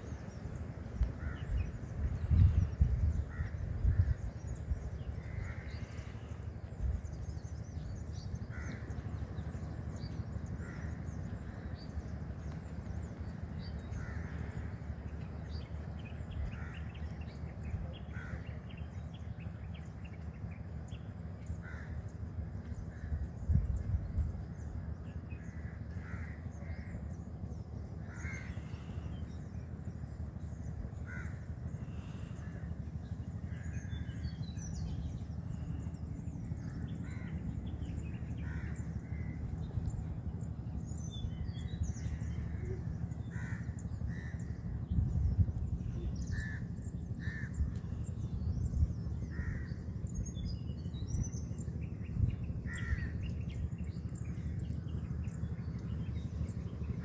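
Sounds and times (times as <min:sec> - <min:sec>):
birds calling: 0:00.0 - 0:57.0
low rumble: 0:00.0 - 0:57.0.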